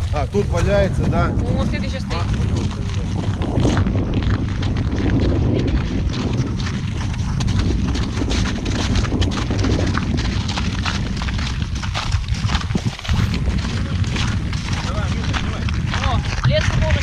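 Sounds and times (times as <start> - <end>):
wind buffeting microphone: 0.0 - 17.0
small clicks and crunches: 2.2 - 17.0.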